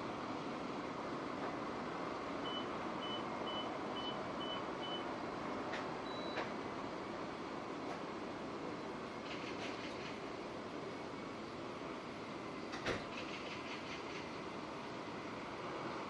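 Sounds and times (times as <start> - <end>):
steady rain: 0.0 - 13.3.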